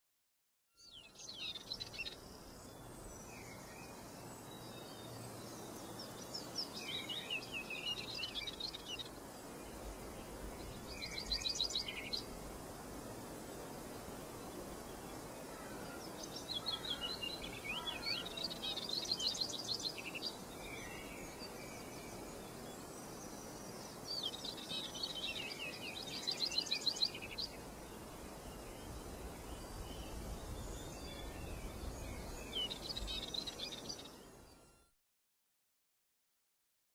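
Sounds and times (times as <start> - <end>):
songbird chirping and trilling: 0.8 - 12.3, 14.9 - 34.9
outdoor hiss: 0.8 - 34.6.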